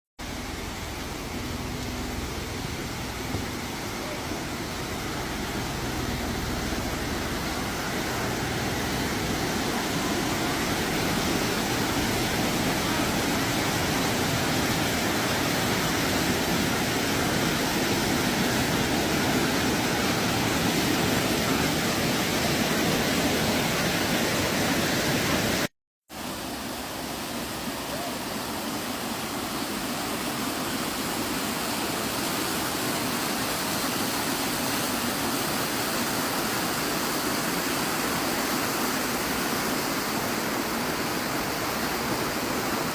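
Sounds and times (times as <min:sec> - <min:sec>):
waterfall rushing: 0:00.2 - 0:42.9.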